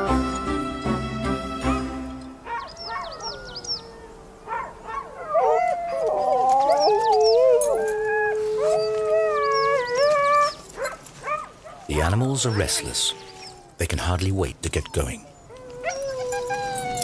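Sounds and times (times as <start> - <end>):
huskies howling: 1.6 - 13.8, 14.9 - 17.0
dogs yipping and whining: 1.7 - 11.9, 12.5 - 13.8, 14.9 - 17.0.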